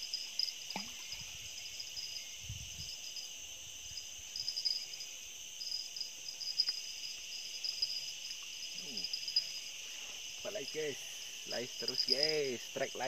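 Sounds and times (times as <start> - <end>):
insect chorus buzzing: 0.0 - 13.0
pulsing insect trill: 0.0 - 13.0.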